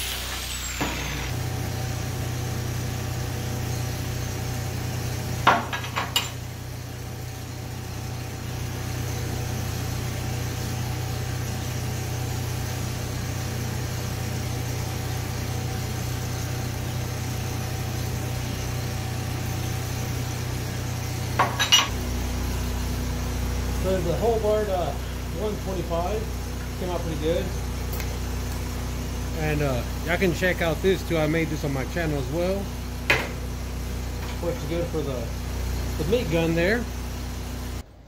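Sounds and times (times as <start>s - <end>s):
generator humming: 0.0s - 38.0s.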